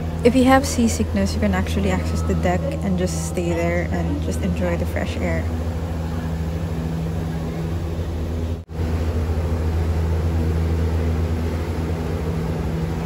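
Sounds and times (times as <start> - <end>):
boat engine drone: 0.0 - 13.0
water rushing in wake: 0.0 - 13.0.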